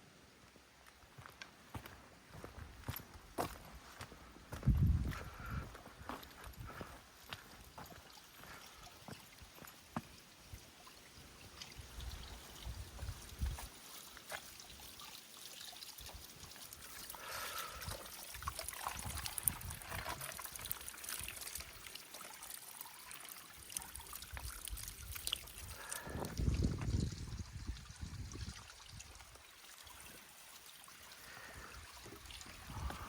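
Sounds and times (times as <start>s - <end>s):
stream trickling: 0.4s - 33.0s.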